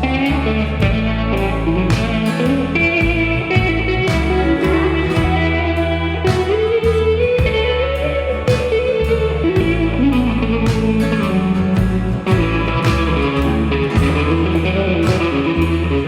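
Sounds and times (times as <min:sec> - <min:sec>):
country-rock band playing: 0:00.0 - 0:16.0
sliding lead guitar line: 0:00.0 - 0:16.0.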